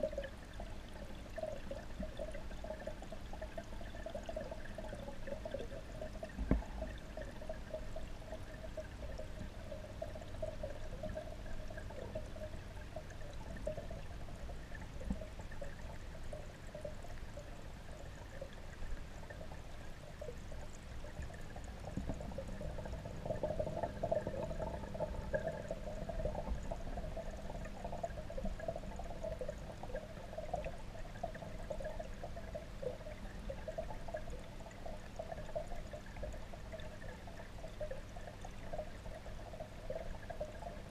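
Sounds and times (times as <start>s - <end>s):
muffled underwater trickling water: 0.0s - 40.9s.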